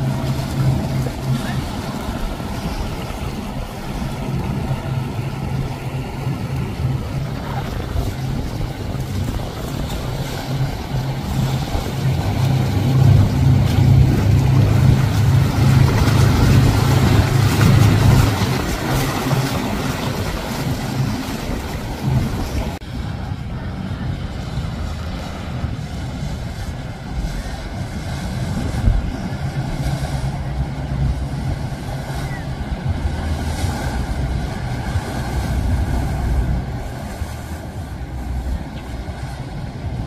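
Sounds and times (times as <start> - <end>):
powerboat engines humming: 0.0 - 40.0
wake water rushing: 0.0 - 40.0.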